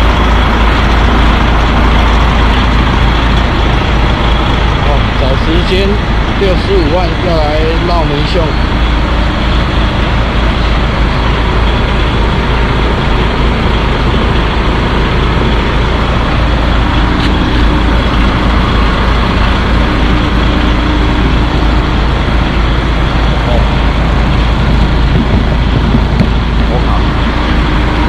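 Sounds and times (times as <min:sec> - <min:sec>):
road noise: 0:00.0 - 0:28.0
truck engine rumble: 0:00.0 - 0:28.0.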